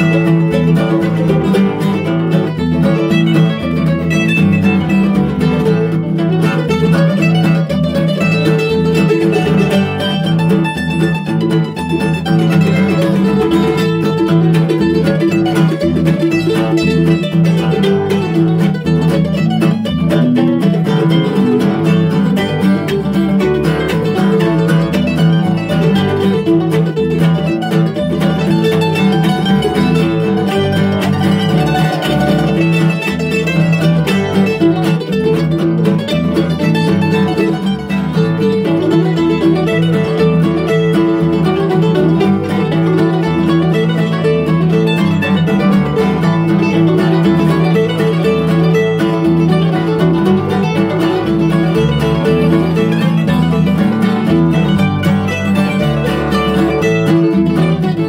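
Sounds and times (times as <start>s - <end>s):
acoustic guitar picking: 0.0s - 58.0s
bass line: 0.0s - 58.0s
mandolins: 0.0s - 58.0s.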